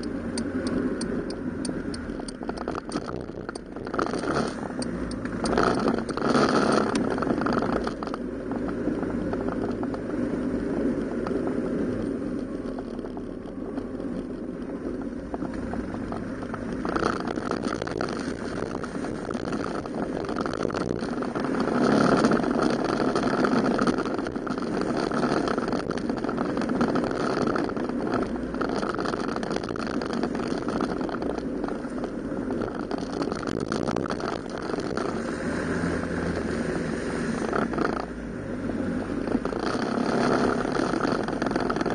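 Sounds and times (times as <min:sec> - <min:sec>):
road noise: 0:00.0 - 0:41.9
scooter engine running: 0:00.0 - 0:41.9
wind: 0:00.0 - 0:41.9.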